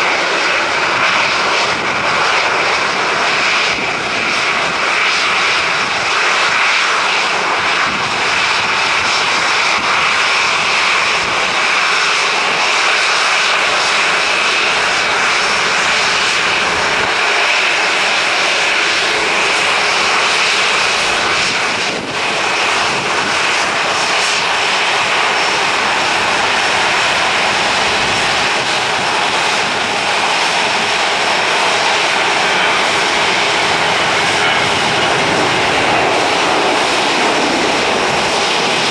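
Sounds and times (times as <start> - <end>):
jet engine whine: 0.0 - 38.9.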